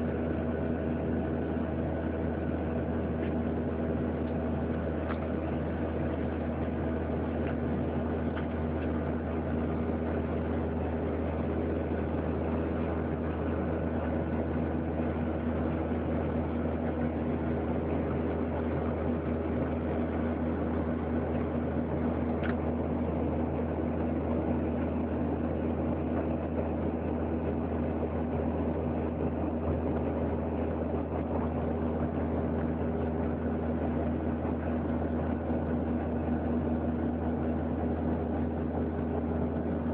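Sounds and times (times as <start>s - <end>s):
constant hum tones: 0.0s - 39.9s
jet engine and airflow drone: 0.0s - 39.9s.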